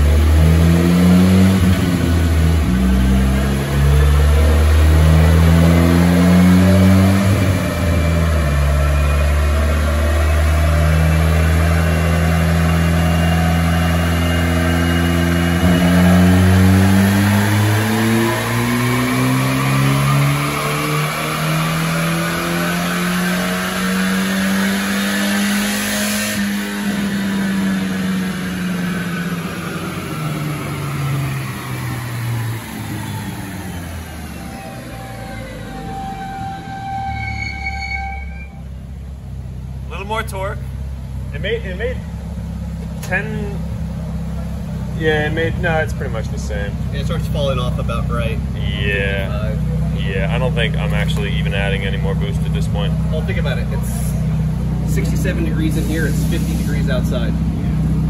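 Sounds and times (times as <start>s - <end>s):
car engine revving on dyno: 0.0s - 58.0s.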